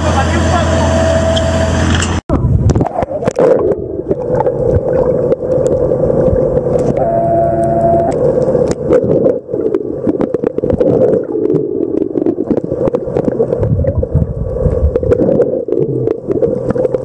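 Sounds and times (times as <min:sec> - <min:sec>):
low rumble: 0:00.0 - 0:17.0
underwater rush of water: 0:02.4 - 0:17.0
small underwater clicks and crackles: 0:02.6 - 0:17.0.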